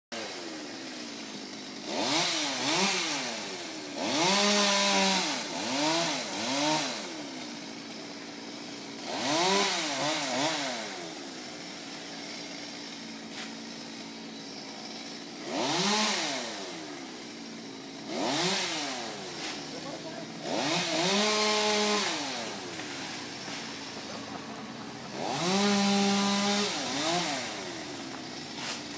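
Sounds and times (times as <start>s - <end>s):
chainsaw idling and revving: 0.1s - 28.9s.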